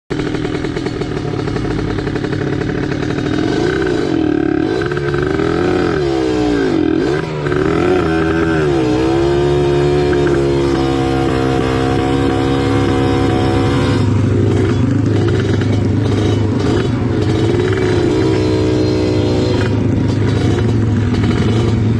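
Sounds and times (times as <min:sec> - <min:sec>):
motorcycle engine revving: 0:00.1 - 0:21.9.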